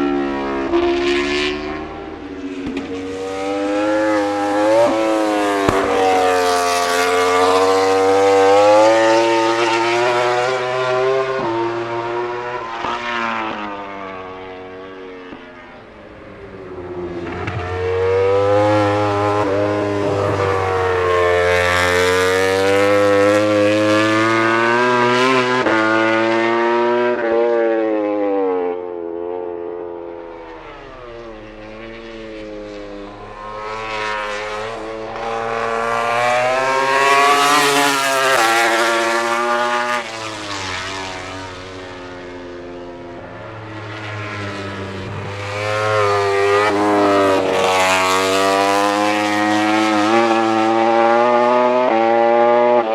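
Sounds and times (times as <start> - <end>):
race motorbikes passing at high revs: 0.0 - 52.9.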